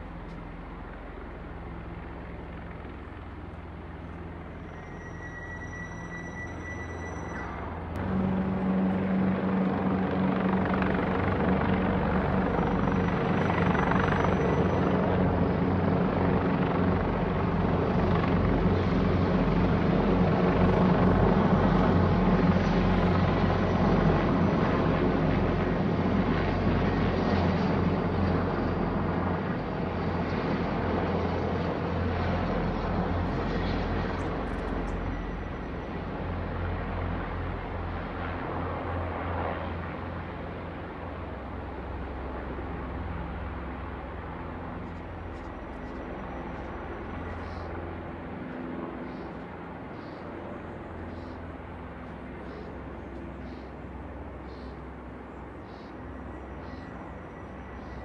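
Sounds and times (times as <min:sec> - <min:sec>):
helicopters passing overhead: 0:00.0 - 0:58.0.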